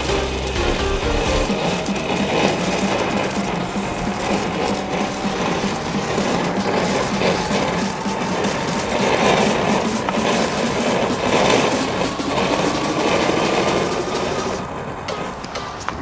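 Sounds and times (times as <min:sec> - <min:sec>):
firework hissing crackle: 0:00.0 - 0:16.0.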